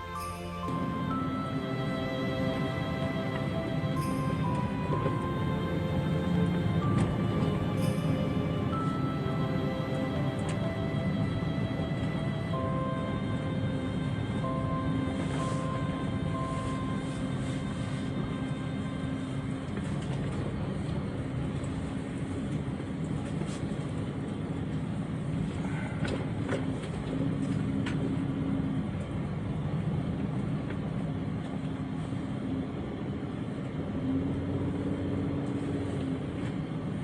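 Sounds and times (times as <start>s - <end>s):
vehicle engine hum: 0.0s - 37.0s.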